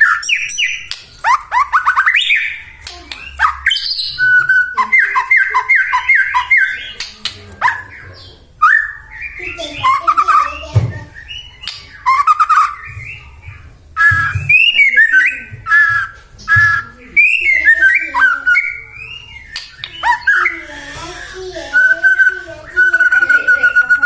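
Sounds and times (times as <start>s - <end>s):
bird singing whistled notes and trills: 0.0s - 24.0s.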